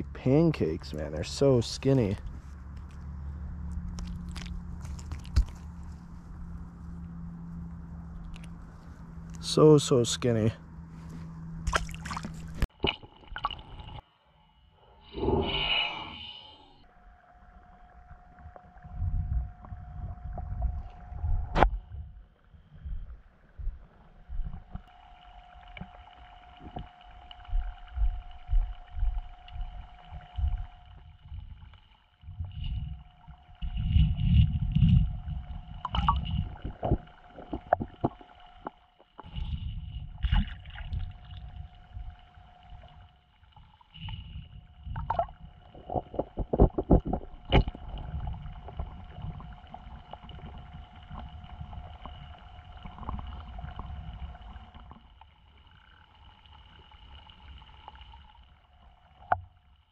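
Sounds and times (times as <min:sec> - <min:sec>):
water sloshing and gurgling: 0:00.0 - 0:09.6, 0:10.6 - 0:14.1, 0:15.0 - 0:59.9
faint steady whine: 0:00.0 - 0:59.9.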